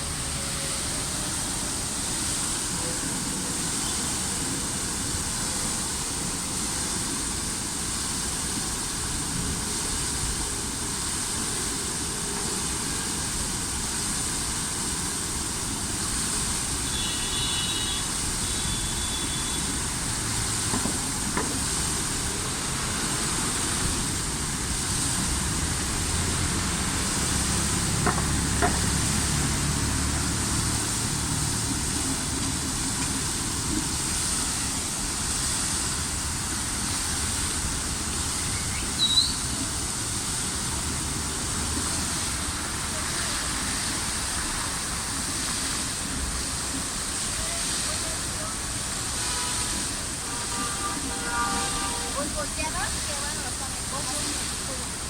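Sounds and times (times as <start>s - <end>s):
fountain water splashing: 0.0s - 55.0s
low traffic rumble: 0.0s - 55.0s.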